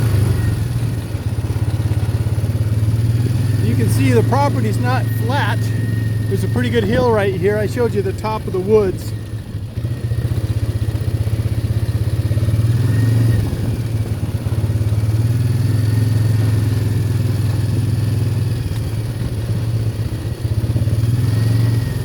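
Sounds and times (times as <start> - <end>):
atv engine drone: 0.0 - 22.0.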